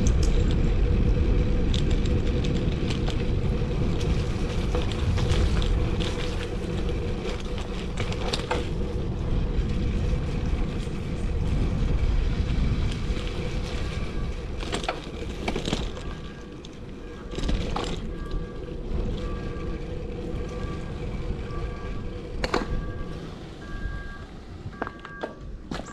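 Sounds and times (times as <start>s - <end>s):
bike clicks and rattles: 0.0s - 24.0s, 24.8s - 25.9s
bicycle tyre noise: 0.0s - 25.9s
wind buffeting camera: 0.0s - 25.9s.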